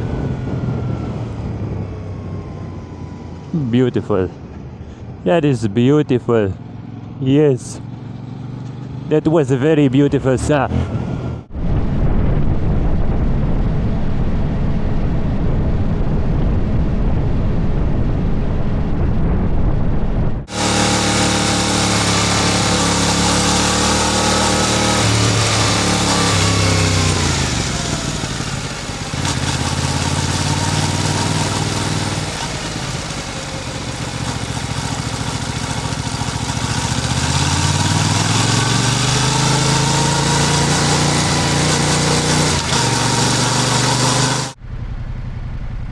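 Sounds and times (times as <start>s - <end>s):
motorcycle engine rumbling: 0.0s - 45.9s.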